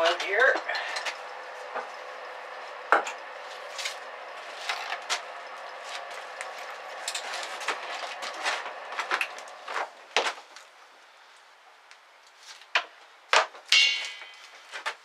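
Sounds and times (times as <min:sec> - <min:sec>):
steady hum: 0:00.0 - 0:11.8, 0:13.8 - 0:15.0.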